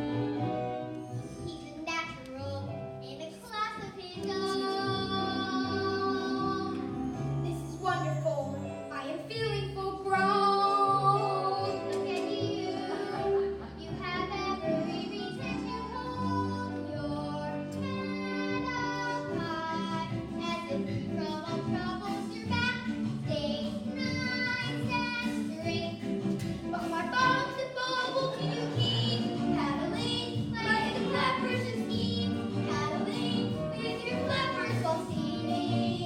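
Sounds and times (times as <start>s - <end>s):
instrumental accompaniment: 0.0s - 36.0s
children singing: 3.8s - 7.8s, 10.0s - 36.0s.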